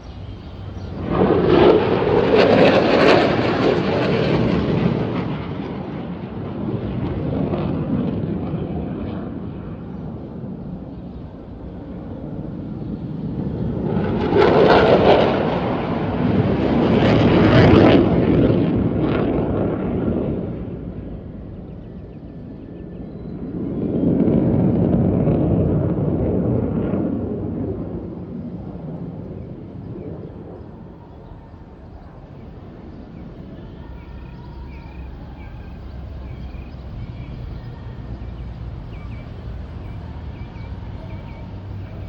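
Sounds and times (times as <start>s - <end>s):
fighter jets passing overhead: 0.0s - 42.0s.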